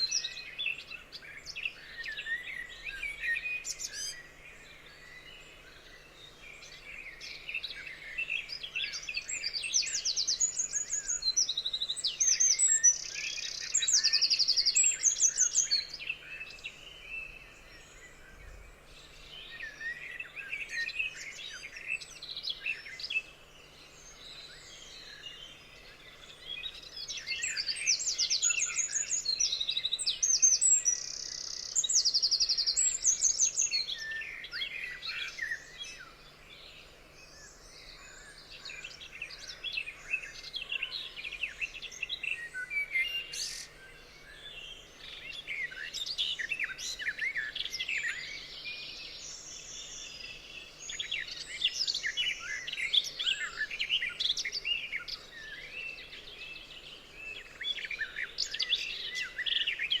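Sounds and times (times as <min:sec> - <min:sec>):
forest birds singing and chirping: 0:00.0 - 1:00.0.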